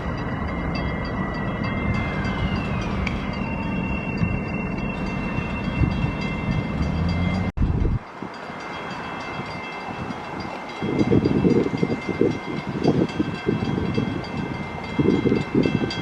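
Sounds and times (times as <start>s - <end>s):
train rumbling by: 0.0s - 16.0s.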